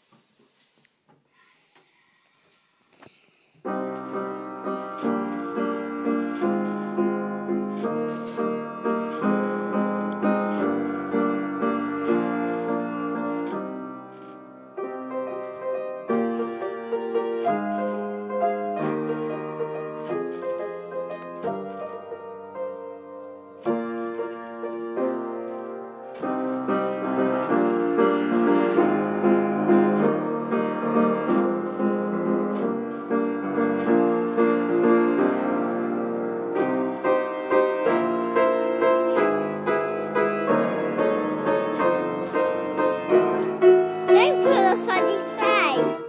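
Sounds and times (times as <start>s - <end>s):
upright piano chords: 3.6s - 46.0s.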